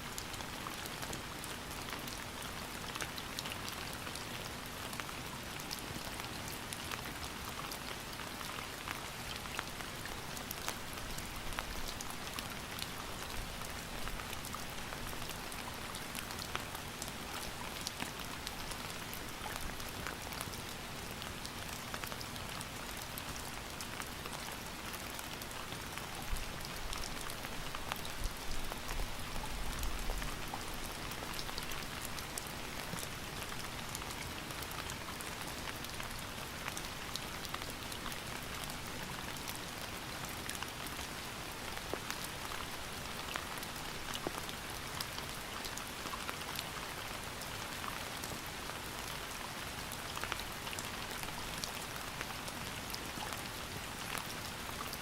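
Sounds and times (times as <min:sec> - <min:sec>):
rain falling: 0:00.0 - 0:55.0
raindrops pattering on a surface: 0:00.0 - 0:55.0.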